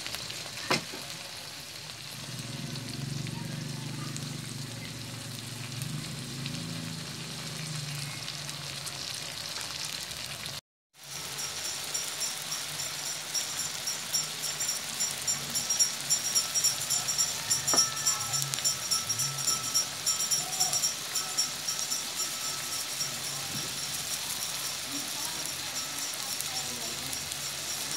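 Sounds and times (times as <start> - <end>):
shrimp sizzling and popping in a wok: 0.0 - 27.9.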